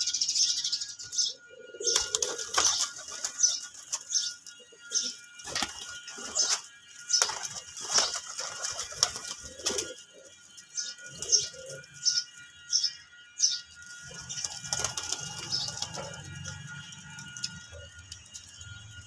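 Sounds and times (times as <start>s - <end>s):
pigeons cooing: 0.0s - 19.0s
wings fluttering: 1.8s - 12.1s, 13.8s - 18.8s.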